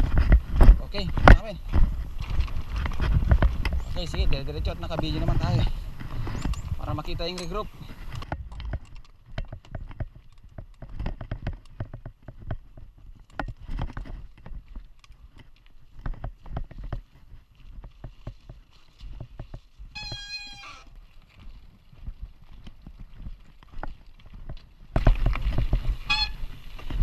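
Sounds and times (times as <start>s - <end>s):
bike rattling over rough trail: 0.0s - 27.0s.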